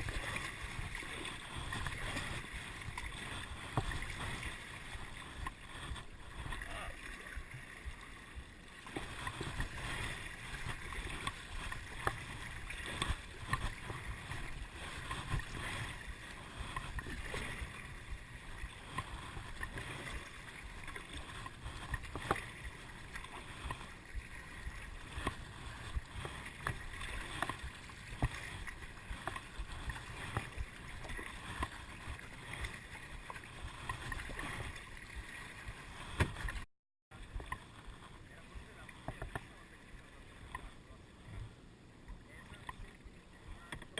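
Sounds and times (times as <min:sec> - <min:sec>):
water splashing around kayak: 0:00.0 - 0:43.9.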